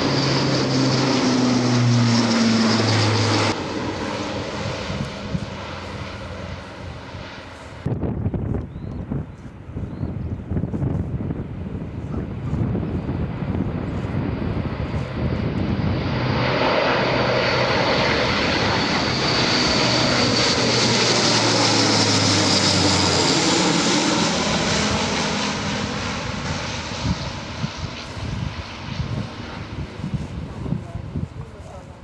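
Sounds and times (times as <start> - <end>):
military aircraft flying overhead: 0.0 - 32.0.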